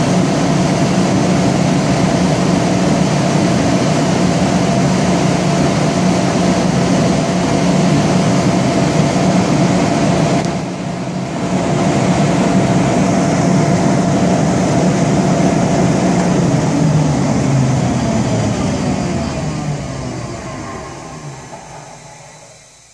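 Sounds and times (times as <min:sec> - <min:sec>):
air compressor humming: 0:00.0 - 0:22.9
compressor winding down: 0:00.0 - 0:22.9.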